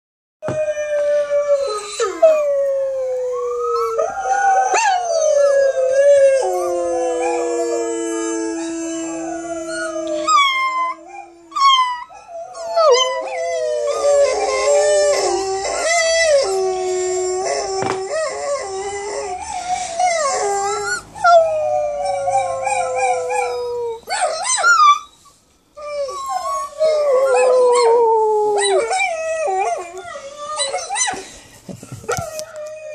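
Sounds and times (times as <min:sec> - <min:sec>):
puppy howling: 0:00.4 - 0:25.2, 0:25.8 - 0:31.2.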